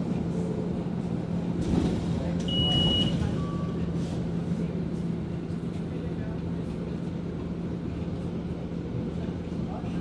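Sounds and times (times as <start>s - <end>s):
bus engine hum: 0.0s - 10.0s.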